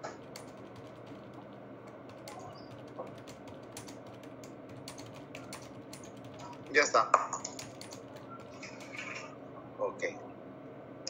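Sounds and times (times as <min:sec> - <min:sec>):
computer keyboard typing: 0:00.0 - 0:09.4.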